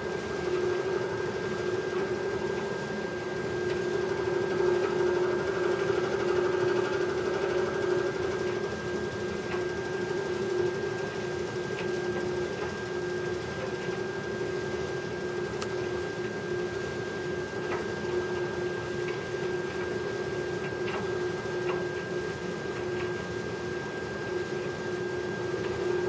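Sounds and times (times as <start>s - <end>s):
dryer drum humming with whine: 0.0s - 26.0s.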